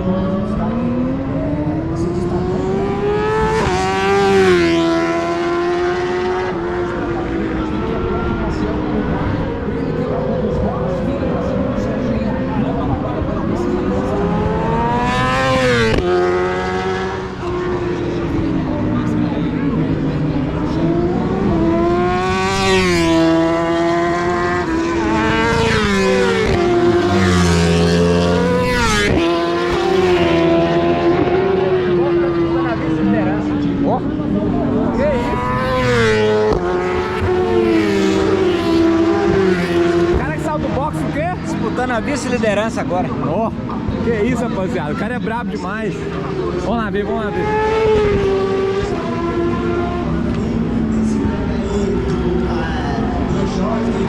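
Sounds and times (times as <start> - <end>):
motorcycle engine at full throttle: 0.0 - 54.0
superbikes passing at high revs: 0.0 - 54.0.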